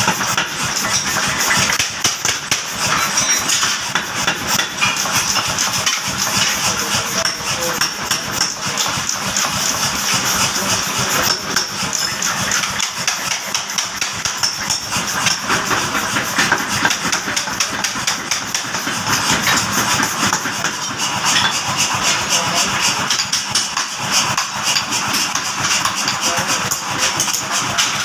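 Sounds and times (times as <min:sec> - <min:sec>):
power hammer striking steel: 0:00.0 - 0:28.0.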